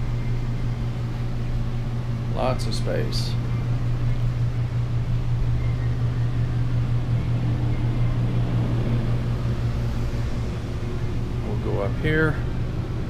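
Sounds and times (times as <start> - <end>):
air conditioning humming: 0.0 - 13.0.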